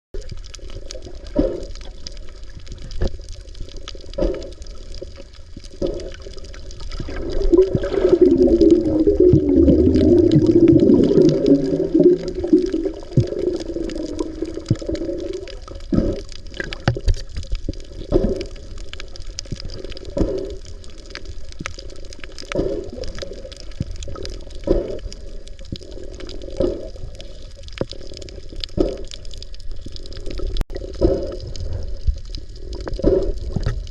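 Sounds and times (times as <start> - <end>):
bubbling rush of water: 0.2 - 33.9
muffled underwater sound: 0.2 - 33.9.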